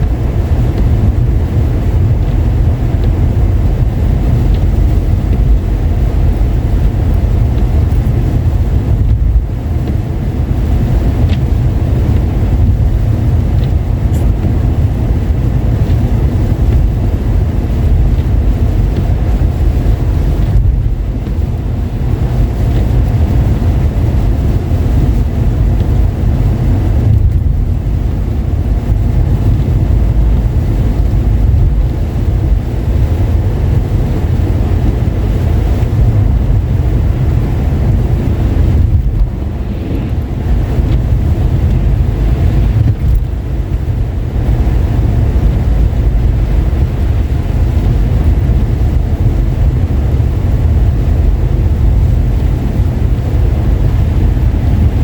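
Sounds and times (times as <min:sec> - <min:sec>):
road and engine rumble in car: 0:00.0 - 0:55.0.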